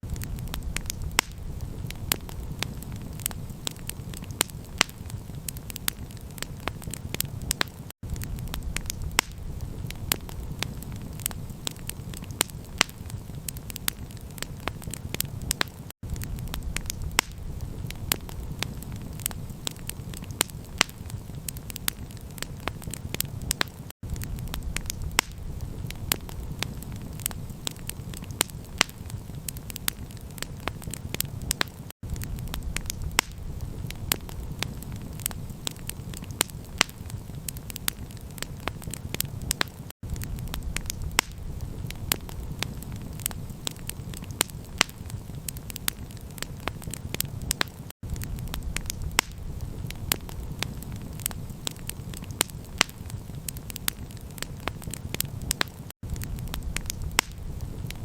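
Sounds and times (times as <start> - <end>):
campfire pops and snaps: 0.0 - 58.0
low rumble of flames: 0.0 - 58.0.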